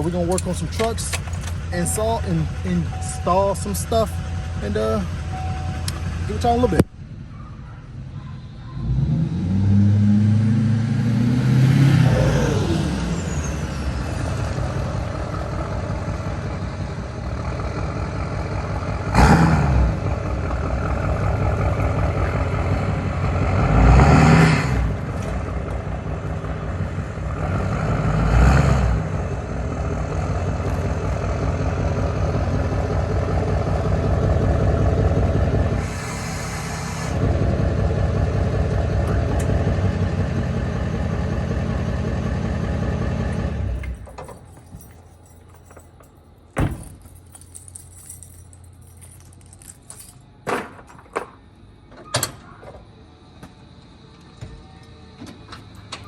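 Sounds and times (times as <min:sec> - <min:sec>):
truck engine accelerating: 0:00.0 - 0:45.9.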